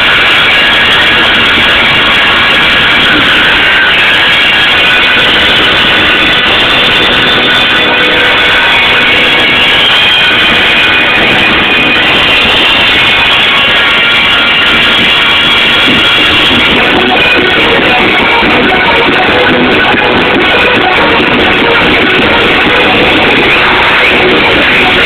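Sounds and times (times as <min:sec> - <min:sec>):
electric guitar: 0:00.0 - 0:25.0.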